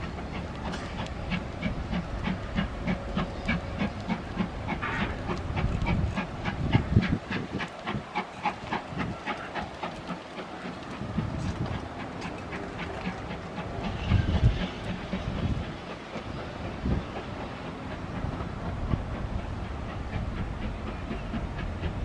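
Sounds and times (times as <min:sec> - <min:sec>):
train clattering slowly on track: 0:00.0 - 0:22.0.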